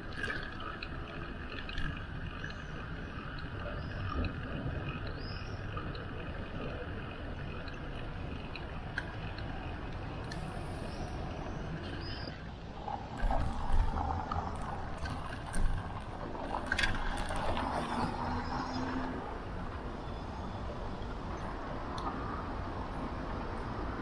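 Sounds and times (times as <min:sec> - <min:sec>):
city street traffic: 0:00.0 - 0:24.0.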